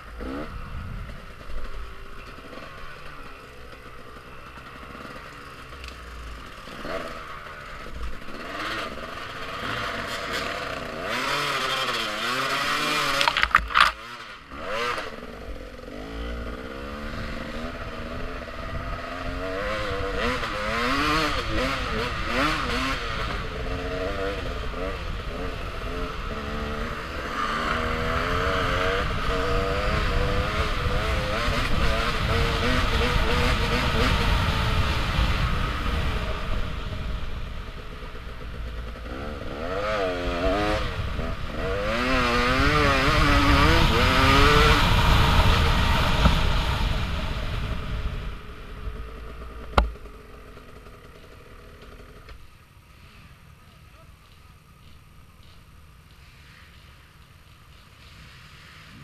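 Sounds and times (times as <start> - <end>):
dirt bike engine revving: 0.0 - 52.3.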